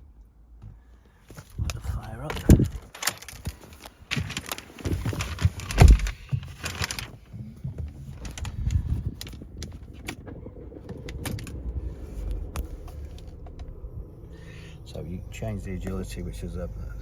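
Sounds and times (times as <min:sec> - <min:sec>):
car engine starting and idling: 0:00.0 - 0:17.0.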